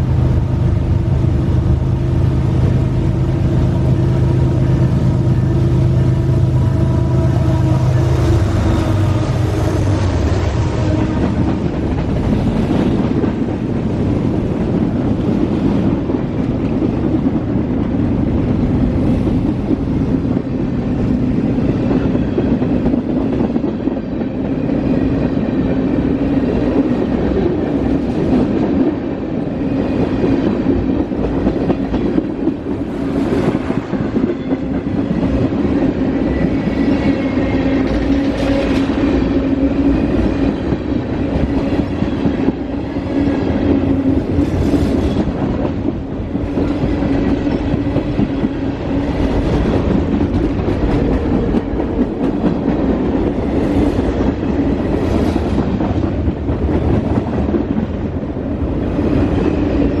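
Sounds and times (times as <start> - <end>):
clickety-clack at rail joints: 0.0 - 60.0
steel wheels rumbling on rail: 0.0 - 60.0.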